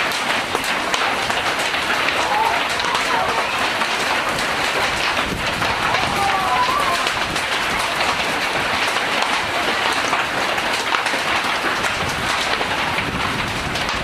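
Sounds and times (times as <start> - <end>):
hail and rain clattering: 0.0 - 14.0.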